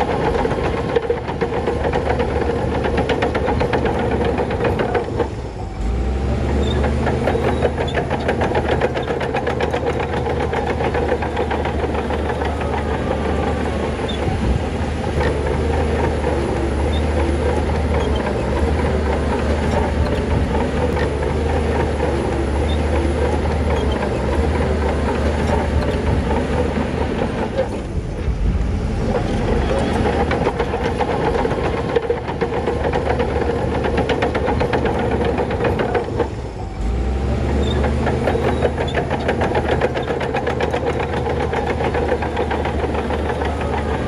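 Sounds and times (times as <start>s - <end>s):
heavy diesel engine under load: 0.0s - 44.0s
mechanical clatter: 6.6s - 36.6s, 37.5s - 44.0s.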